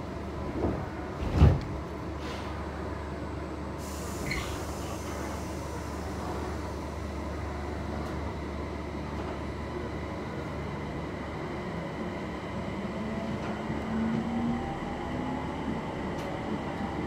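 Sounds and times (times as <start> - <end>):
train hum and rumble: 0.0 - 17.0.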